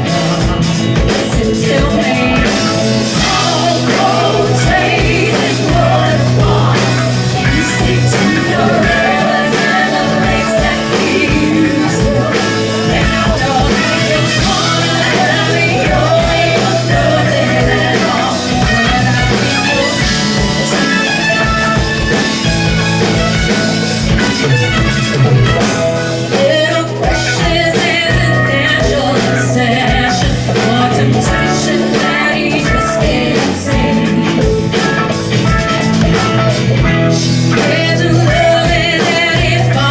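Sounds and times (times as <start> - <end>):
person singing: 0.0 - 23.2, 25.2 - 39.9
drum kit: 0.0 - 39.9
guitar: 0.0 - 39.9.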